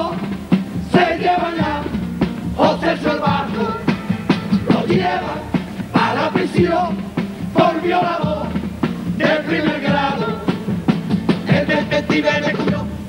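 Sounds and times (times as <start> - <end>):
drum beat: 0.0 - 13.0
men singing together: 0.0 - 13.0
strummed accompaniment: 0.0 - 13.0.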